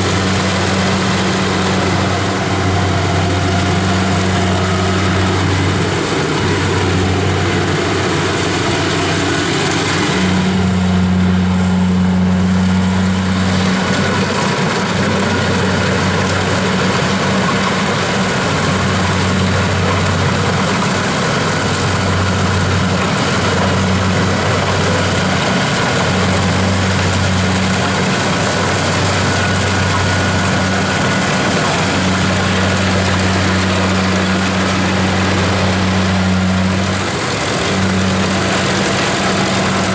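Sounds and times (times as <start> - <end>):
combine harvester engine running: 0.0 - 39.9
machinery drone: 0.0 - 39.9.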